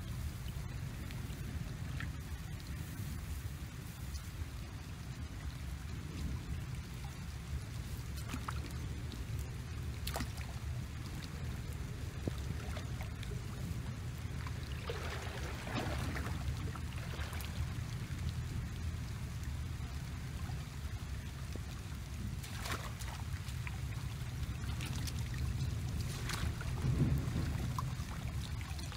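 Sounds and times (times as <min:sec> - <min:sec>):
wind on microphone: 0:00.0 - 0:28.9
water splashing from wading: 0:04.0 - 0:28.9.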